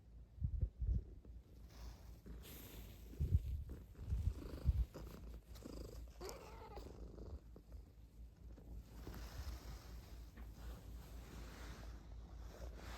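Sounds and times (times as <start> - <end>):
cat purring: 1.6 - 12.9.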